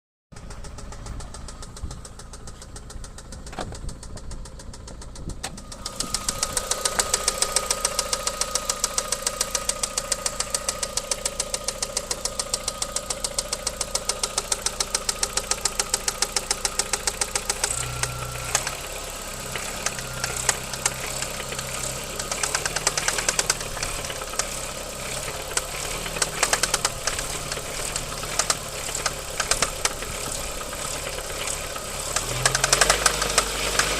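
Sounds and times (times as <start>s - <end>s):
engine running with knocking: 0.4s - 33.9s.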